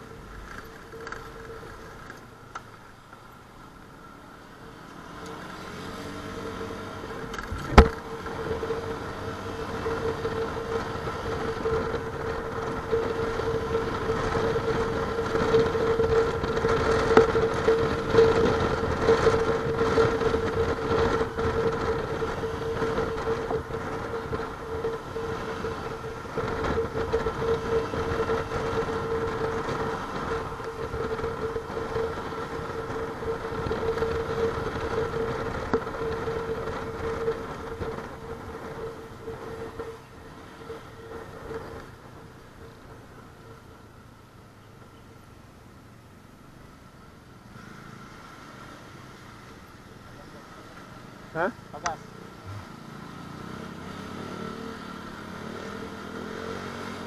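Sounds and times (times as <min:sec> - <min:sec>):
motorcycle engine drone: 0:00.0 - 0:57.0
road and wind noise: 0:00.0 - 0:57.0.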